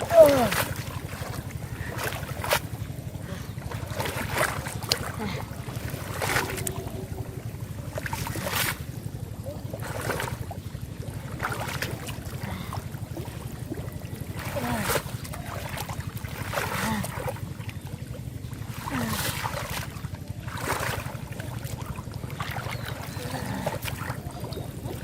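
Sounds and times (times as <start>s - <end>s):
steady low rumble: 0.0s - 25.0s
water and mud splashing: 0.0s - 25.0s.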